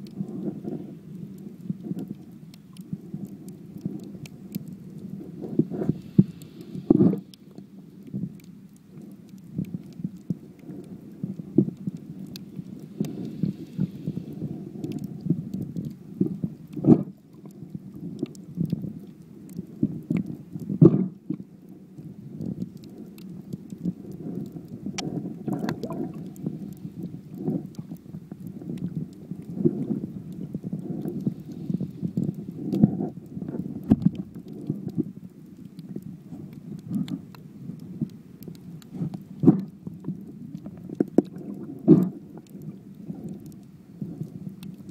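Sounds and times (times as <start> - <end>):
muffled underwater rumbling: 0.0 - 44.9.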